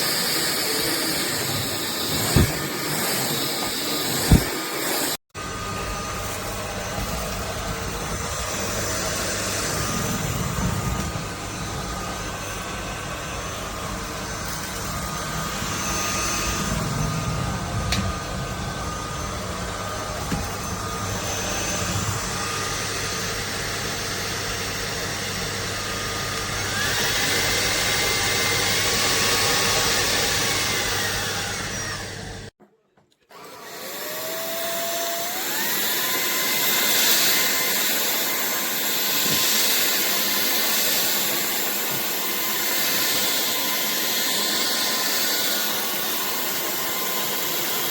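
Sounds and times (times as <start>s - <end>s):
cordless vacuum motor whine: 0.0s - 32.5s, 33.3s - 47.9s.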